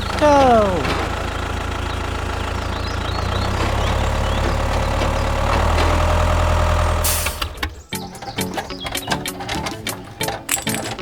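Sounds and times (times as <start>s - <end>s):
tractor motor humming: 0.0s - 11.0s.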